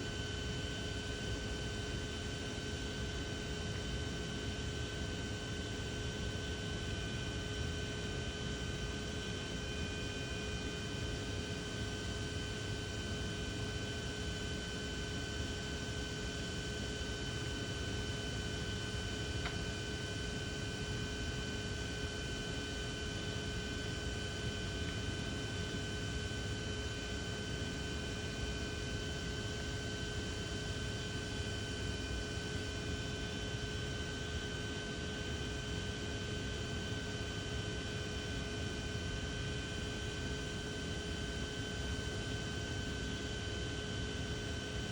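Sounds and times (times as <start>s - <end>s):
machine hum and hiss: 0.0s - 44.9s.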